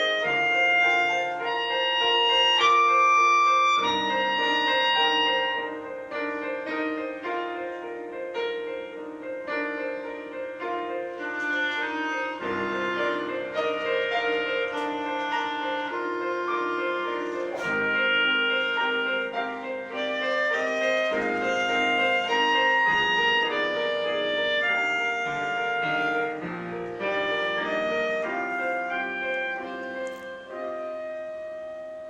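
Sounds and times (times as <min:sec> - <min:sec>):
melody instrument long held notes: 0:00.0 - 0:32.0
piano chords: 0:00.0 - 0:32.0.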